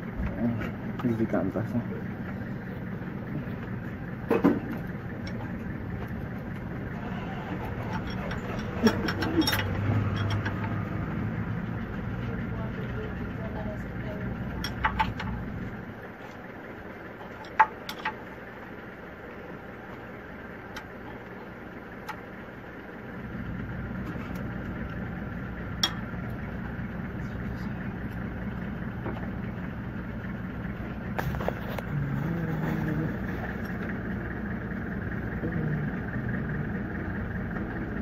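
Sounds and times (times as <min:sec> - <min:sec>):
low mechanical rumble: 0:00.0 - 0:38.0.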